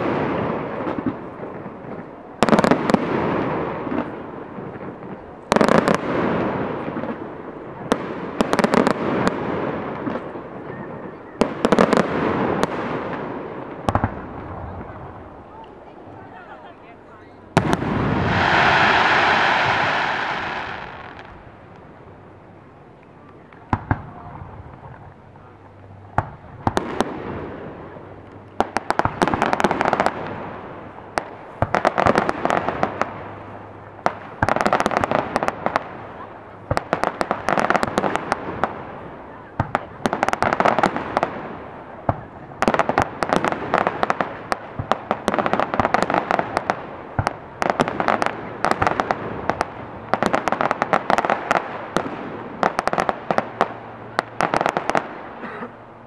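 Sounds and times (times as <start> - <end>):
firework crackling: 0.0 - 16.7, 17.4 - 25.2, 25.8 - 55.5.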